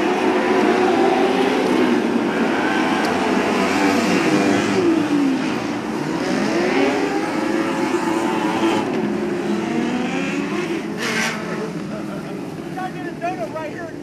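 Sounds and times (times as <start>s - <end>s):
sprint car engines racing: 0.0s - 14.0s.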